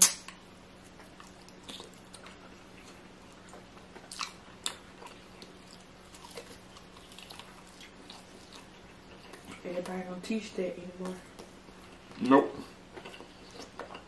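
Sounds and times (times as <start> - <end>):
faint steady hum: 0.0 - 14.0
person chewing food: 0.7 - 9.6, 11.3 - 14.0.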